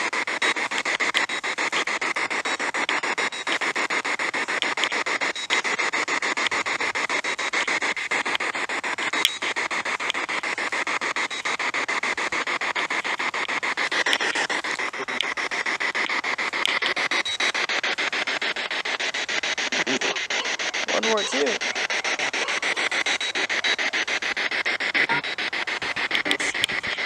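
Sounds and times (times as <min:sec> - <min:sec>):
choppy radio static: 0:00.0 - 0:27.0.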